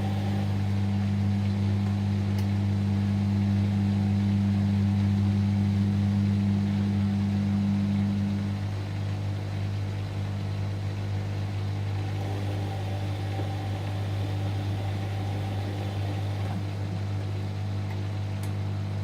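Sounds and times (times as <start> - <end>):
washing machine humming: 0.0 - 19.0.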